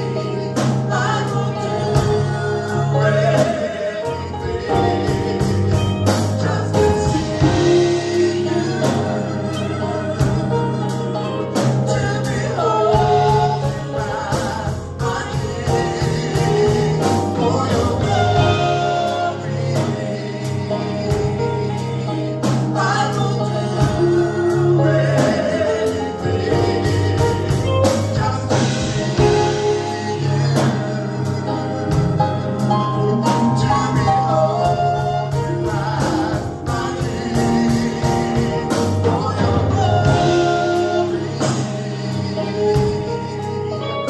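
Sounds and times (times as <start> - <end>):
gospel band and choir singing: 0.0 - 44.0.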